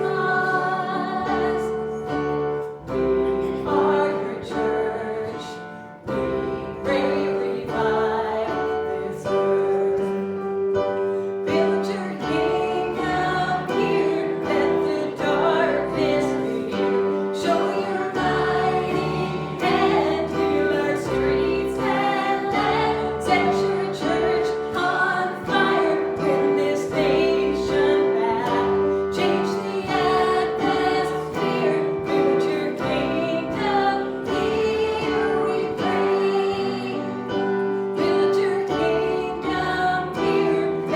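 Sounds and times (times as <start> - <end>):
instrumental accompaniment: 0.0 - 40.9
steady held chords: 0.0 - 40.9
voices singing worship song: 0.0 - 40.9.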